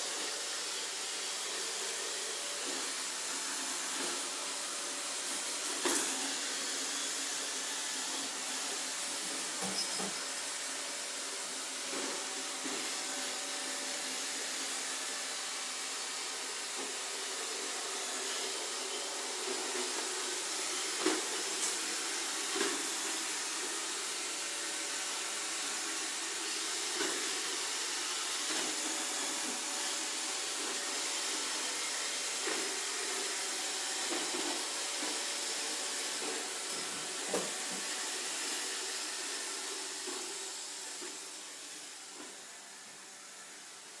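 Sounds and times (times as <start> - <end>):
robot vacuum whirring: 0.1 - 15.1, 15.8 - 43.9.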